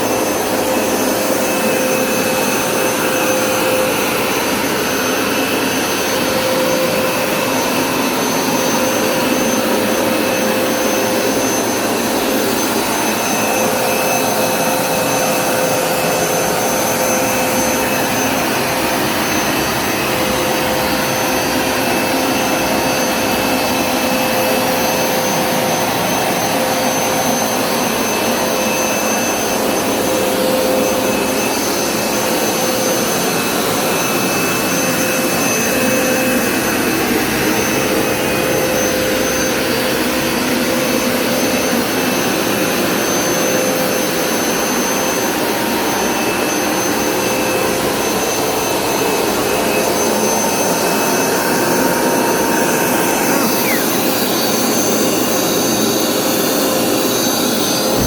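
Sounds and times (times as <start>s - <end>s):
carpet cleaner suction and motor whine: 0.0s - 58.0s.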